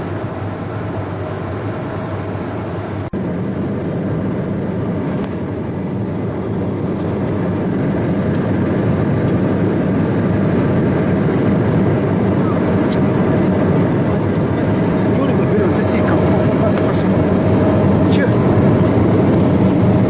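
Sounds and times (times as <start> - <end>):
aircraft engine droning: 0.0 - 20.0.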